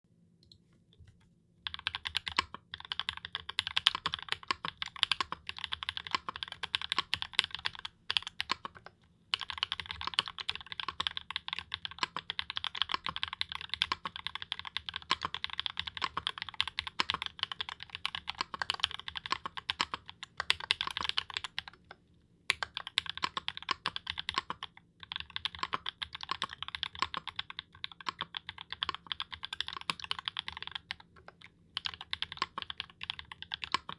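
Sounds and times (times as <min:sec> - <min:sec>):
mechanical keyboard typing: 0:01.6 - 0:33.9.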